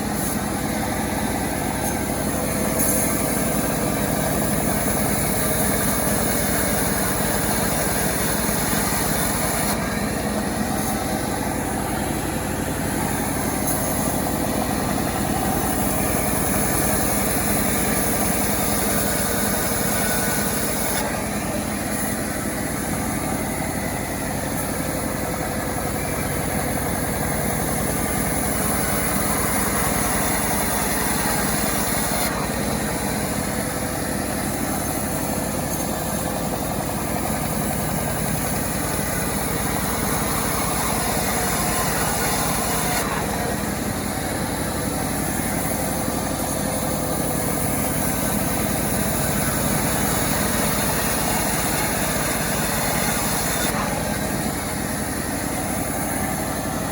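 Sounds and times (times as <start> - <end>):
chainsaw engine running: 0.0 - 56.9.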